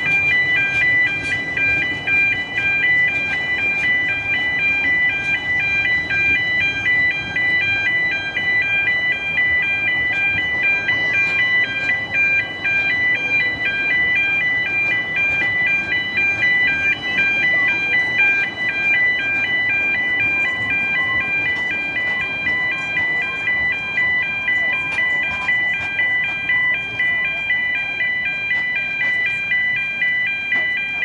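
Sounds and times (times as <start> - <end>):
train carriages rumbling past: 0.0 - 31.0
two-tone crossing alarm: 0.0 - 31.0.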